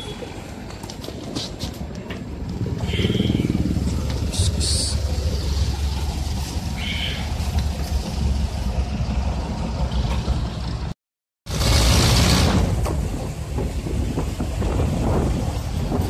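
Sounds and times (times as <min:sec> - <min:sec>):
road noise: 0:00.0 - 0:16.0
rush of wind: 0:00.3 - 0:10.9, 0:11.5 - 0:16.0
diesel engine running: 0:02.0 - 0:16.0.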